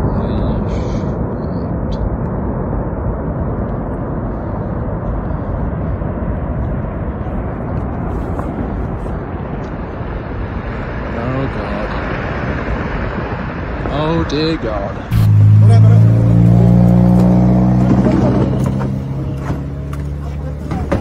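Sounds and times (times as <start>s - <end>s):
avalanche low rumble: 0.0s - 21.0s.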